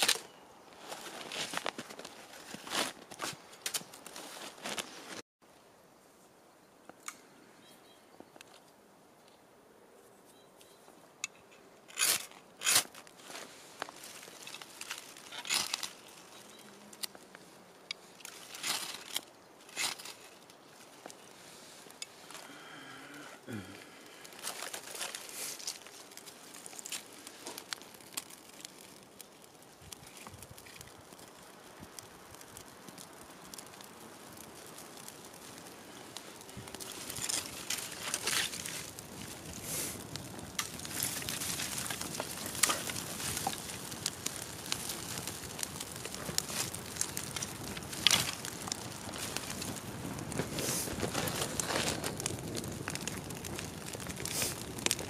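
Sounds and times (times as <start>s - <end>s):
campfire crackling and popping: 0.0s - 5.2s, 11.2s - 55.0s
dry twigs snapping and rustling: 0.0s - 5.2s, 11.2s - 55.0s.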